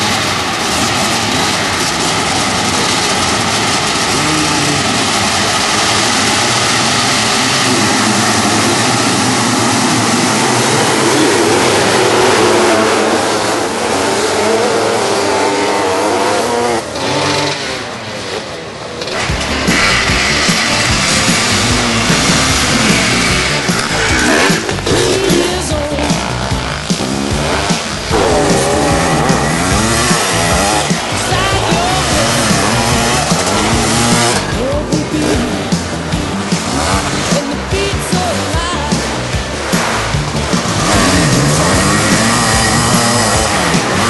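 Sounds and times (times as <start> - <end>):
motocross bikes revving: 0.0 - 44.0.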